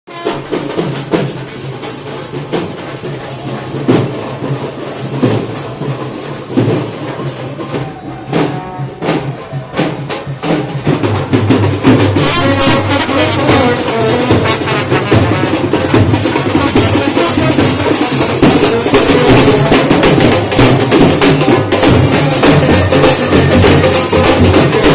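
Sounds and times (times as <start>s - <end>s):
brass band playing: 0.1s - 24.9s
heavy drum beats: 0.1s - 24.9s.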